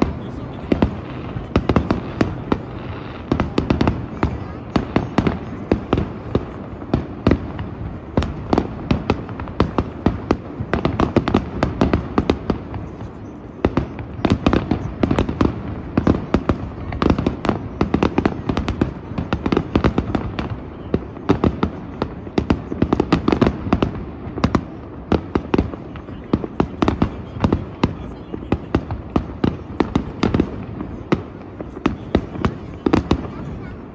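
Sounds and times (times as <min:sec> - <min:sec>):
fireworks bursting: 0:00.0 - 0:33.9.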